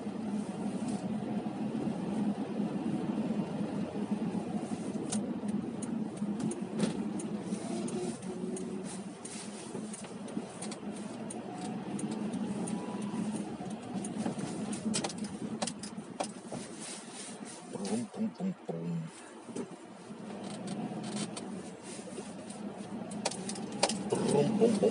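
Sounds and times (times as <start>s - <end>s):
engine and road hum: 0.0s - 24.9s.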